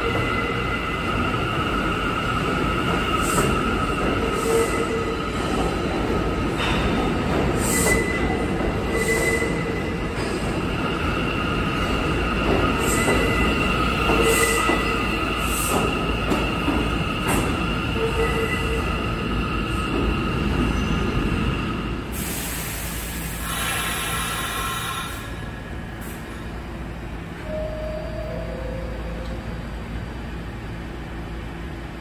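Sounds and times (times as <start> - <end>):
subway train rumble: 0.0 - 32.0.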